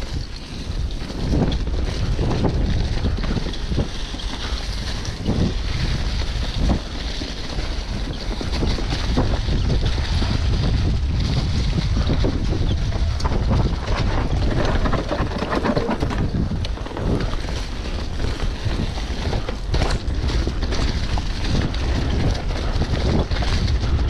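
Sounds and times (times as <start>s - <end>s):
bike rattling over bumps: 0.0s - 24.0s
tyres rumbling on dirt trail: 0.0s - 24.0s
wind buffeting microphone: 0.0s - 24.0s.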